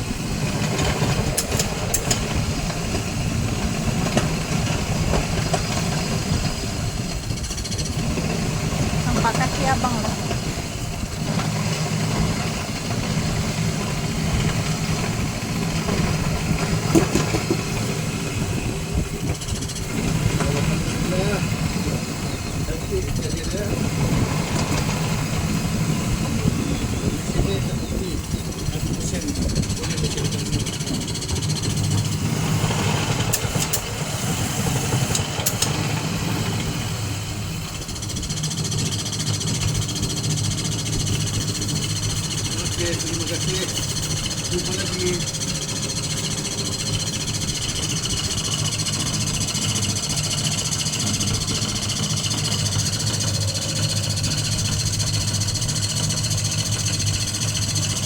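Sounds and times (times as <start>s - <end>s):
grinding machine humming: 0.0s - 58.0s.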